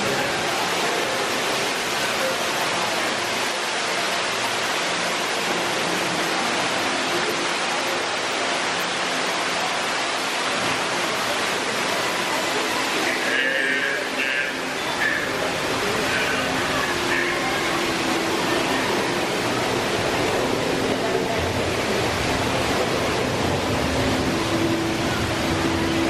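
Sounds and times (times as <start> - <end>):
water rushing and falling: 0.0 - 26.0.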